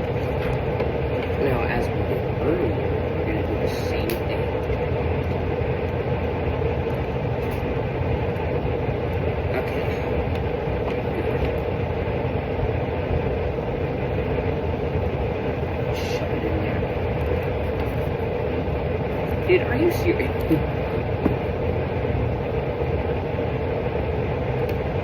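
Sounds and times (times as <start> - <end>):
machine drone: 0.0 - 25.0.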